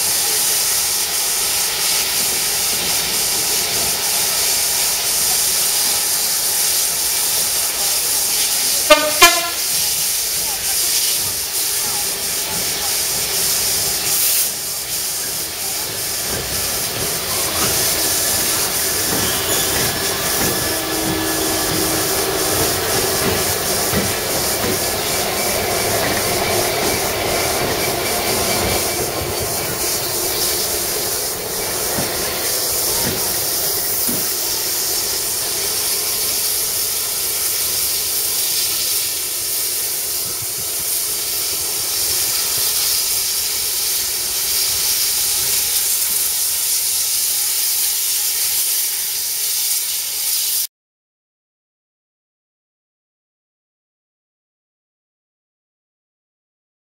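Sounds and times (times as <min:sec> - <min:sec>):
steam locomotive hissing steam: 0:00.0 - 0:50.7.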